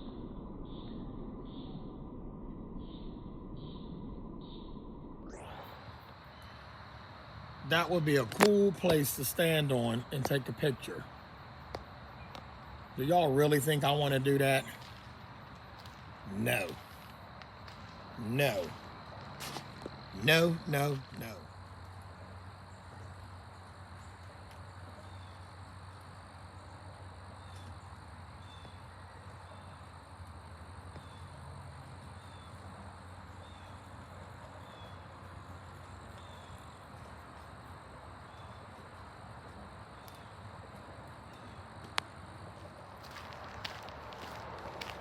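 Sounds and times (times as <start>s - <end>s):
insects chirping: 0.0s - 45.0s.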